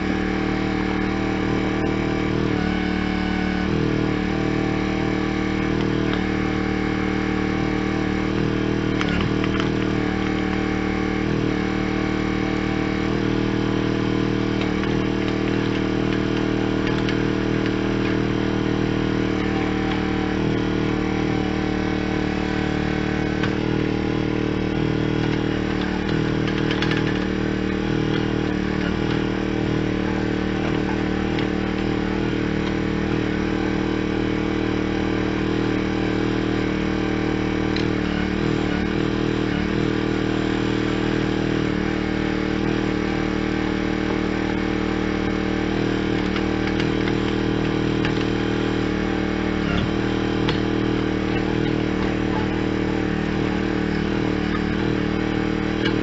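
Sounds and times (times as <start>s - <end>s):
backhoe engine running: 3.6s - 56.0s.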